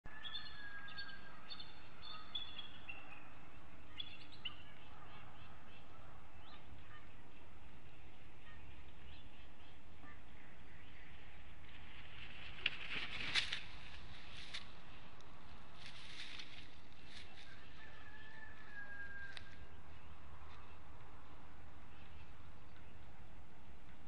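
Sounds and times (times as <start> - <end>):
steady outdoor hiss: 0.1 - 24.0.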